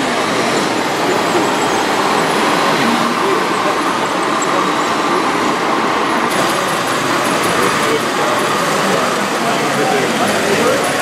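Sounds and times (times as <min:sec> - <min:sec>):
model construction machines running: 0:00.0 - 0:11.0.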